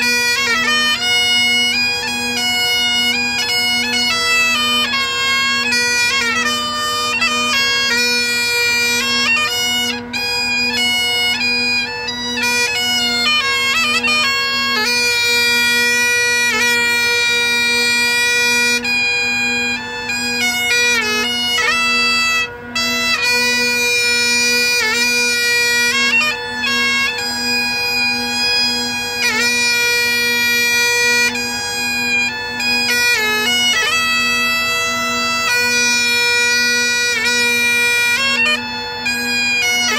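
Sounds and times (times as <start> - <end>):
bagpipe chanter melody: 0.0 - 39.9
bagpipe drones: 0.0 - 39.9.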